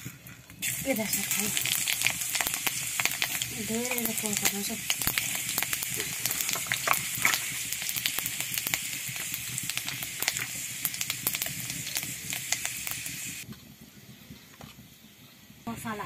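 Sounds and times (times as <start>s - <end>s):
seeds sizzling and popping in oil: 0.0s - 16.0s.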